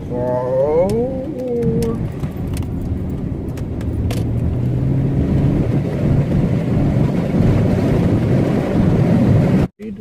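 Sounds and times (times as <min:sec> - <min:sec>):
car engine accelerating: 0:00.0 - 0:09.7
road and wind noise: 0:00.0 - 0:10.0.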